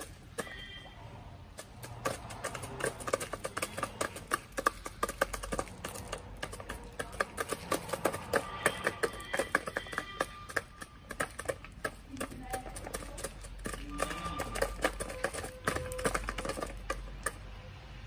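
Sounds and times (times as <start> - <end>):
chickens pecking at plastic feeder: 0.0 - 17.8.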